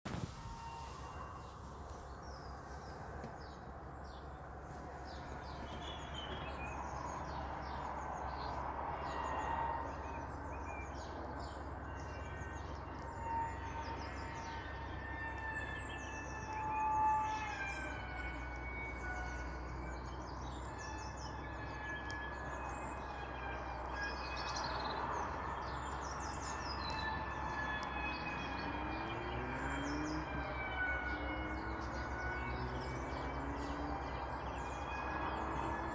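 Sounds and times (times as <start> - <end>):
birds chirping: 0.1 - 35.9.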